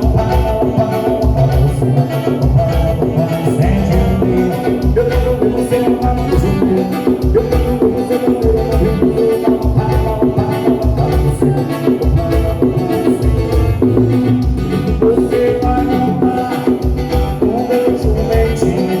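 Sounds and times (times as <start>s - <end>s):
pulsing bass line: 0.0s - 19.0s
repeated melodic notes: 0.0s - 19.0s
shaker-like percussion: 0.0s - 19.0s.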